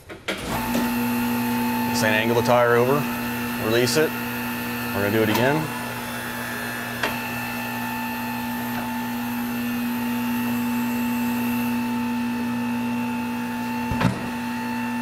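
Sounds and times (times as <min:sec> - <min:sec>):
electric motor drone: 0:00.4 - 0:15.0.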